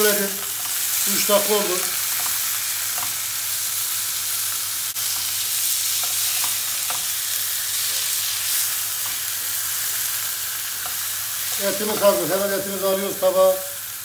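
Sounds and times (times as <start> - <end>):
steaks sizzling in grill pan: 0.0 - 14.0.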